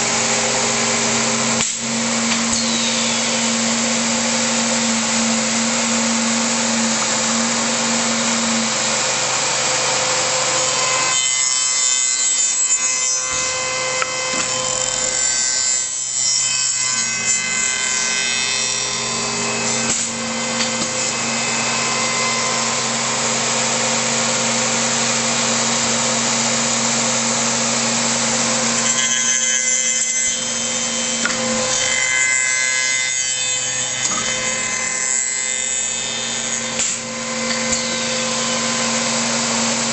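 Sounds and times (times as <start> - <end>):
steady motor hum: 0.0 - 32.8, 35.9 - 39.9
tenoning machine cutting wood: 0.0 - 39.9.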